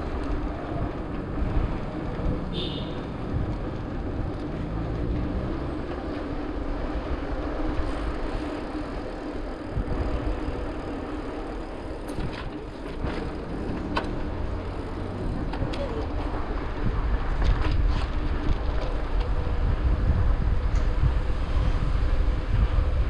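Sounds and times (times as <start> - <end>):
bike tyres rolling on asphalt: 0.0 - 23.0
wind rumbling on microphone: 0.0 - 23.0.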